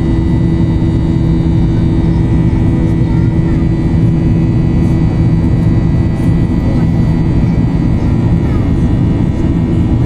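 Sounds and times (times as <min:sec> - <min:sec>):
jet airliner engine rumble: 0:00.0 - 0:10.0
steady whining tones: 0:00.0 - 0:10.0.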